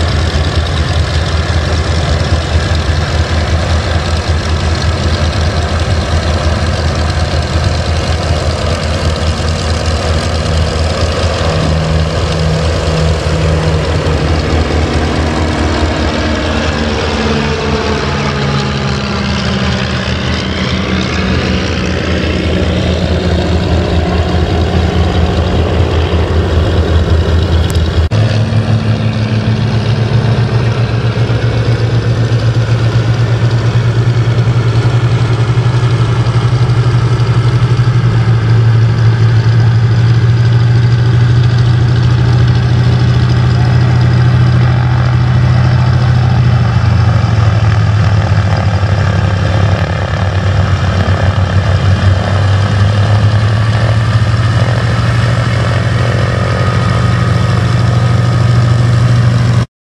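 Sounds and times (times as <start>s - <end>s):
light aircraft piston engine: 0.0s - 59.7s.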